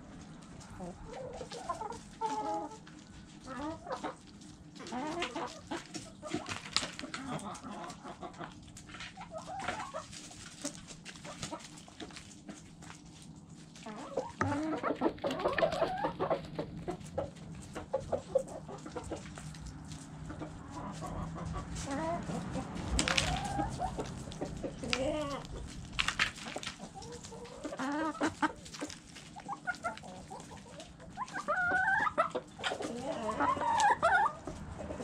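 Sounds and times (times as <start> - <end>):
chickens clucking: 0.0 - 35.0
chickens pecking grain: 0.0 - 35.0.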